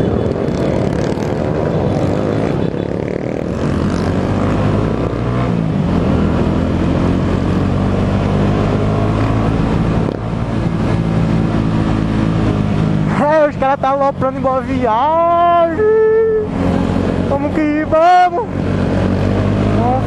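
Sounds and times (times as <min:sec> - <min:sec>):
motorcycle engines droning: 0:00.0 - 0:20.0.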